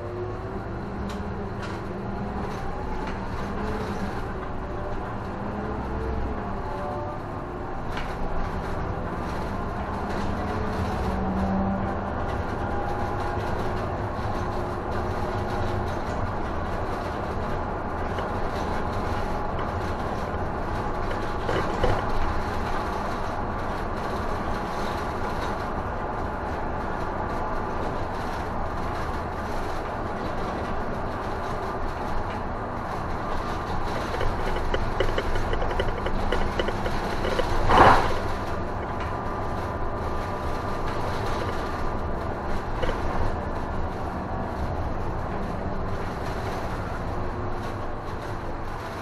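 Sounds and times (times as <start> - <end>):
bus engine and road noise: 0.0 - 49.0.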